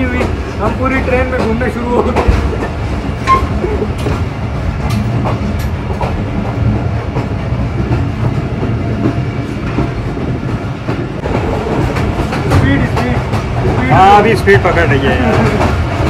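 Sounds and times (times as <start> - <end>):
train carriage rumbling on rails: 0.0 - 16.0
train wheel clacks: 0.0 - 16.0.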